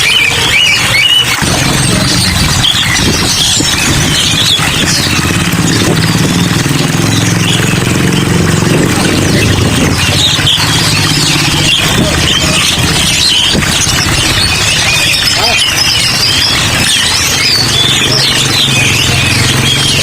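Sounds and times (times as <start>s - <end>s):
motor engine running: 0.0s - 20.0s
songbirds chirping and twittering: 0.0s - 20.0s.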